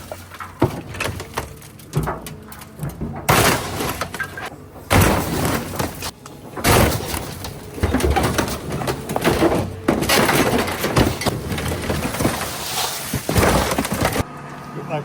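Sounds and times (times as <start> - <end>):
metal and glass crunching: 0.0 - 14.3.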